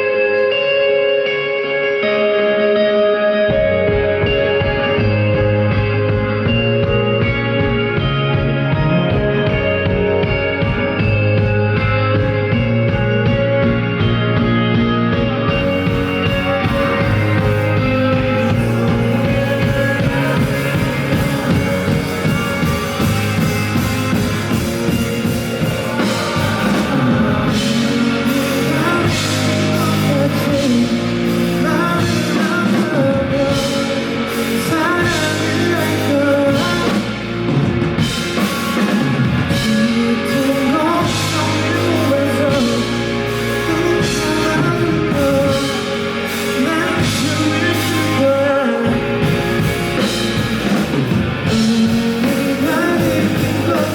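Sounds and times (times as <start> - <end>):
bass guitar: 0.0 - 53.9
electric guitars: 0.0 - 53.9
drum kit: 3.5 - 53.9
person singing: 7.6 - 53.9.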